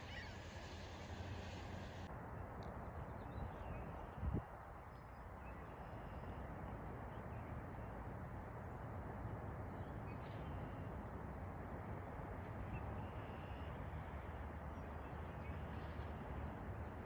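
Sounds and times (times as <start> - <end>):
low outdoor noise: 0.0 - 17.0.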